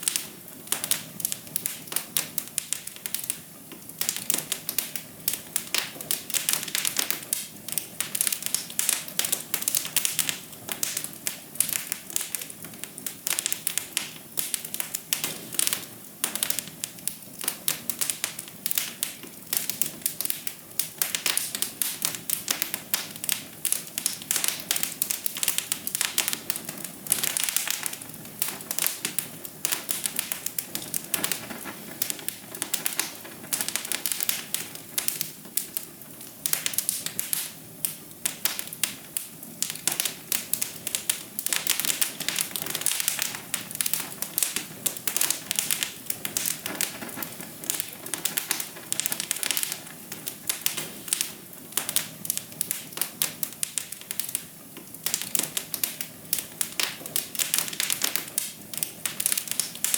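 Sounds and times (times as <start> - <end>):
soft steady hiss: 0.0 - 59.9
wood fire crackling and popping: 0.0 - 59.9.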